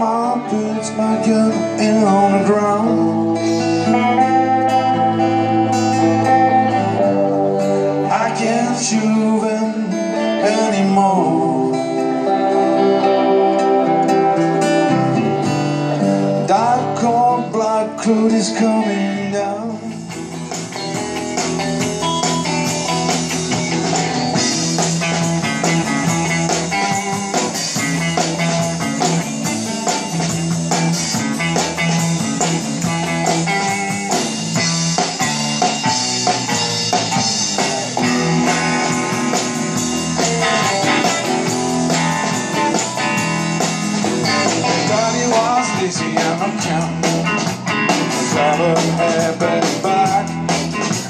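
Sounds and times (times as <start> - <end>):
bass guitar: 0.0 - 51.0
drums: 0.0 - 51.0
electric guitars: 0.0 - 51.0.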